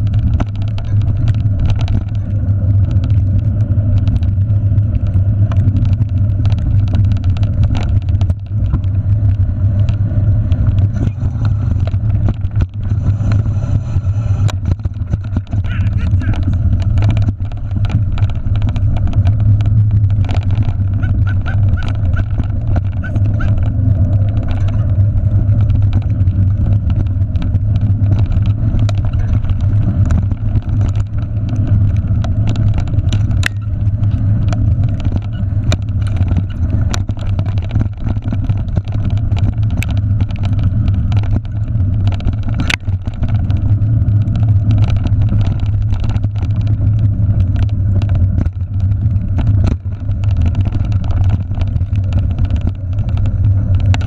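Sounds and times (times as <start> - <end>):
wind and tyre rumble: 0.0 - 54.0.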